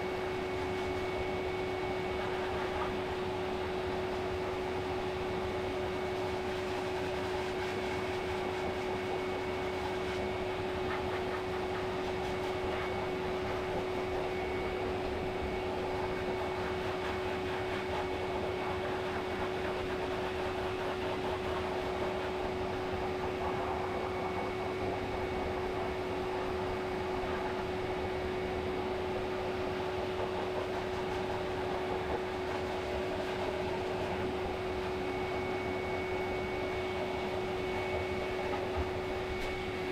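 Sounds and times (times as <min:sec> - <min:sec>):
grooming dryer blowing air: 0:00.0 - 0:39.9.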